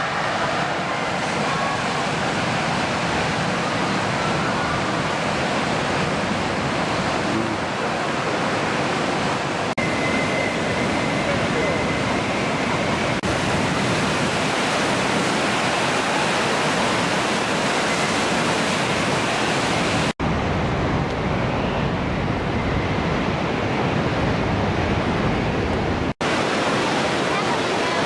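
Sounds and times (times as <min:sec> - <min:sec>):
water rushing from a dam: 0:00.0 - 0:20.2, 0:23.2 - 0:28.0.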